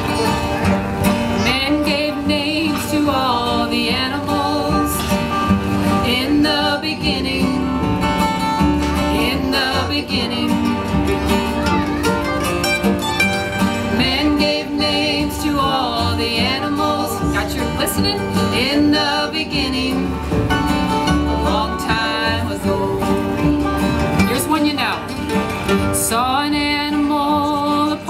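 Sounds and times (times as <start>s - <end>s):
acoustic guitars: 0.0s - 28.0s
banjo: 0.0s - 28.0s
mandolin: 0.0s - 28.0s
upright bass: 0.0s - 28.0s.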